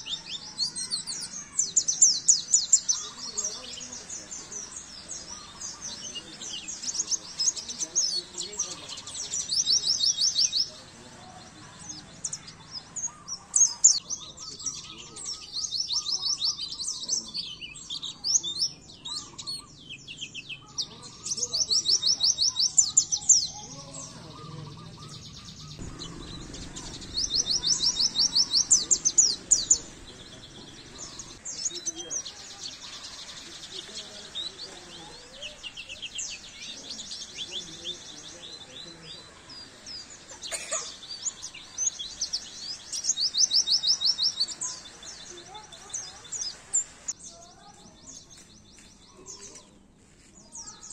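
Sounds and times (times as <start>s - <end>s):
bird chirping trills: 0.0s - 50.9s.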